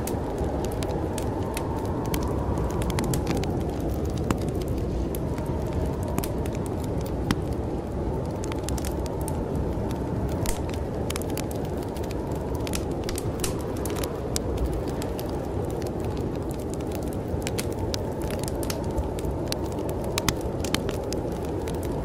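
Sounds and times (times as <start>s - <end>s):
storm wind rushing: 0.0s - 22.0s
wood fire crackling: 0.0s - 22.0s.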